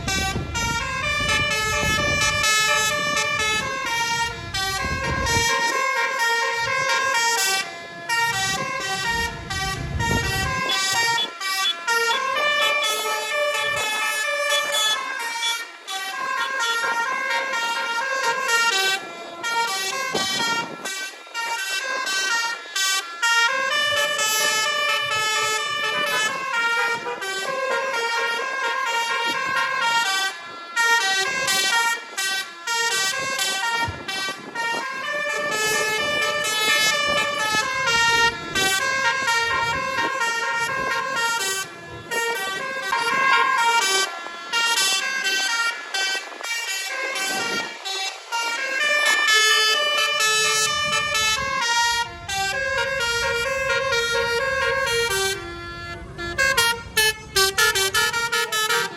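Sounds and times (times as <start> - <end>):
multi-tone bus horn melody: 0.0 - 58.9.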